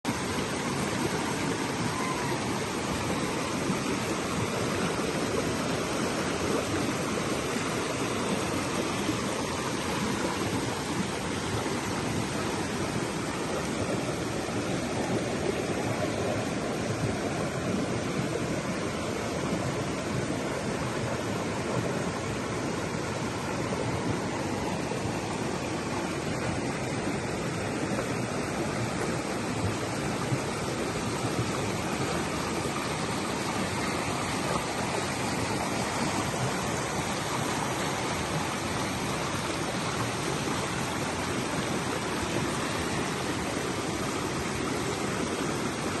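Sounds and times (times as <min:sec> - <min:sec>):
river water flowing: 0:00.0 - 0:46.0.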